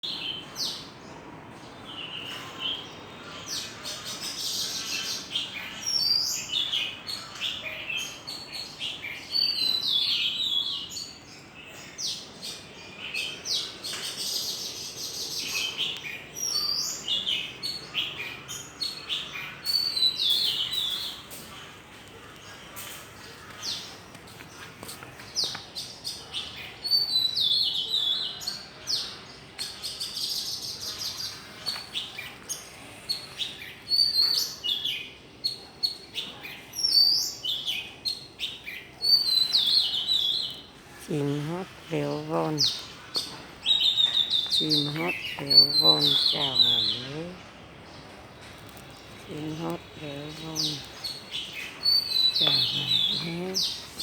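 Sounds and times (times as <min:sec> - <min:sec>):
songbirds chirping and singing: 0:00.0 - 0:54.0.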